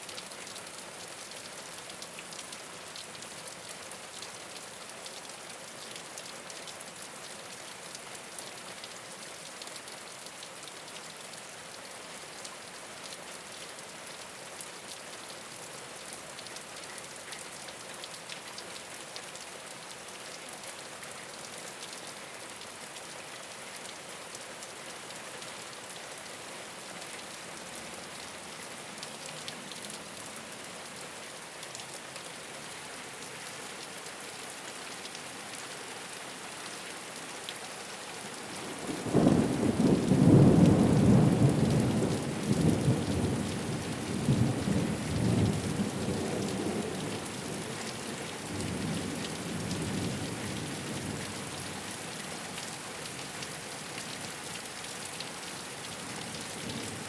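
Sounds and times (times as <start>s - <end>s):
rain falling on a rooftop: 0.0s - 57.0s.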